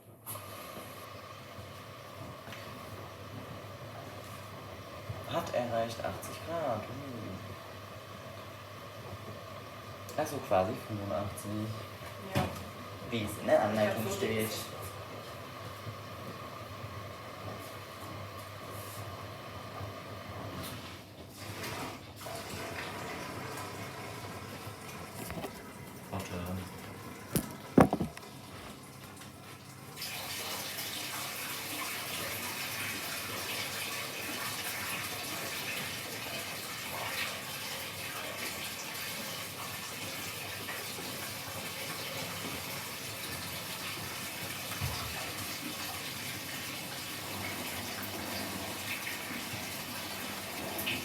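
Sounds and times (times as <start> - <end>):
water rushing into washing machine: 0.0 - 51.0.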